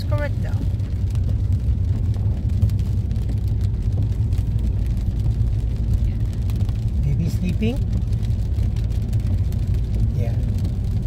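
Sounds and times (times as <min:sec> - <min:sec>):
car engine rumble: 0:00.0 - 0:11.0
rain ticking on car: 0:00.0 - 0:11.0
tyres on wet road: 0:00.0 - 0:11.0.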